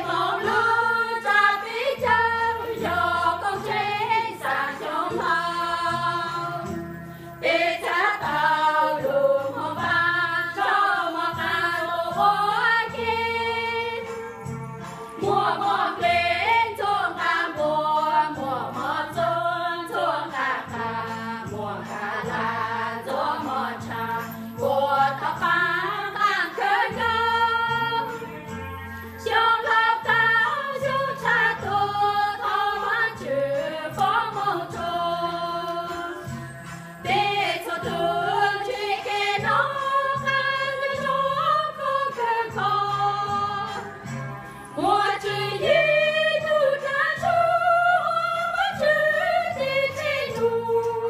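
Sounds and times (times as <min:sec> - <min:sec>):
women singing a church song: 0:00.0 - 0:28.6, 0:29.2 - 0:51.0.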